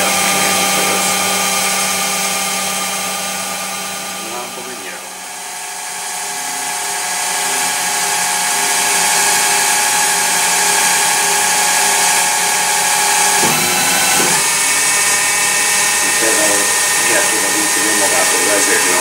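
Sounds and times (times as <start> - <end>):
lathe machine whine and hiss: 0.0 - 19.0.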